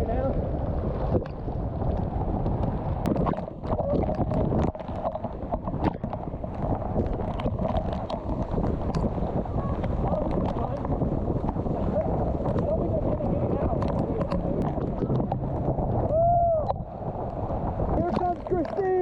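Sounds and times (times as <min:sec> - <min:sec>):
water splashing near camera: 0:00.0 - 0:19.0.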